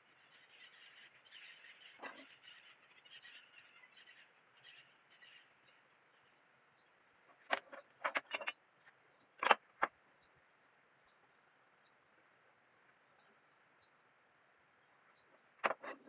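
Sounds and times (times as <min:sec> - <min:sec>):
faint high steady whine: 0:00.0 - 0:16.0
small bird chirps: 0:00.0 - 0:16.0.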